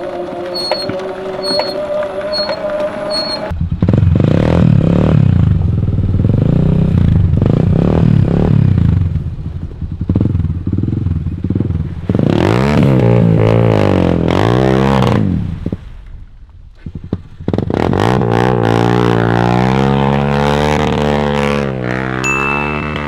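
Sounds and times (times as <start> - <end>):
quad bike engine revving: 0.0 - 9.2, 10.0 - 15.5, 17.3 - 23.0.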